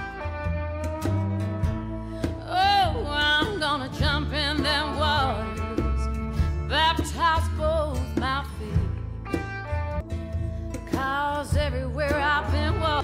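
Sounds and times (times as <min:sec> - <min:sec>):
low instrumental accompaniment: 0:00.0 - 0:13.0.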